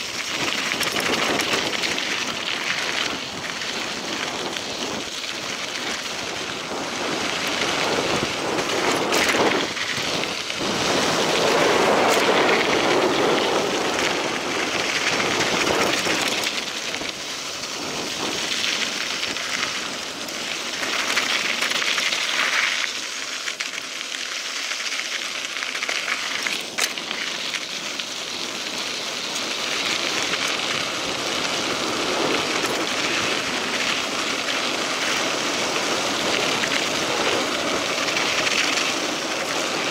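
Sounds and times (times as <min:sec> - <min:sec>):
bike tyres rolling on gravel: 0:00.0 - 0:39.9.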